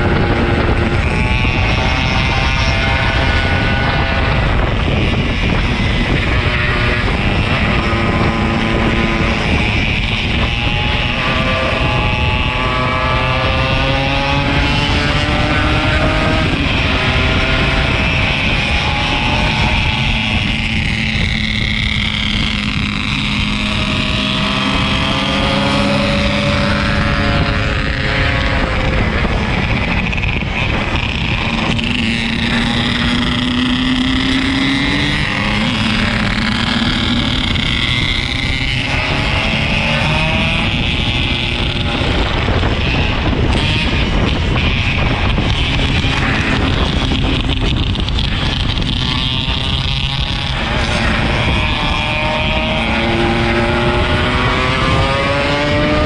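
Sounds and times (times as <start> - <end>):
motorcycle two-stroke engine: 0.0 - 56.0
wind and road noise: 0.0 - 56.0.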